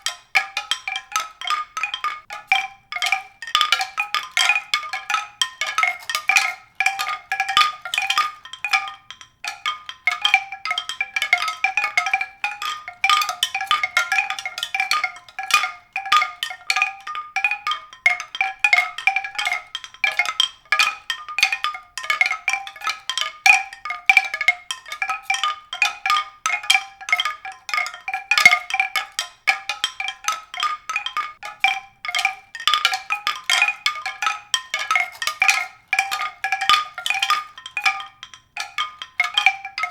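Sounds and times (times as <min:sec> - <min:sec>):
mallet percussion notes: 0:00.0 - 0:39.9.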